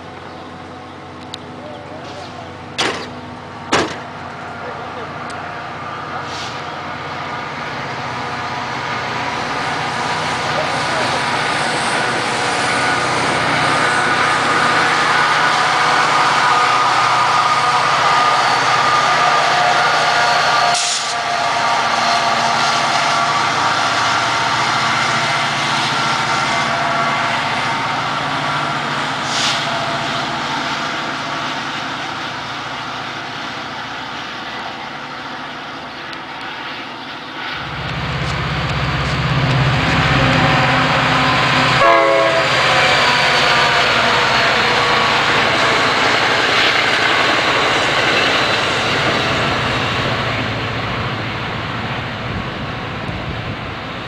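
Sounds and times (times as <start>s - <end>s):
heavy locomotive engine rumble: 0.0s - 54.0s
train coaches rolling past: 0.0s - 54.0s.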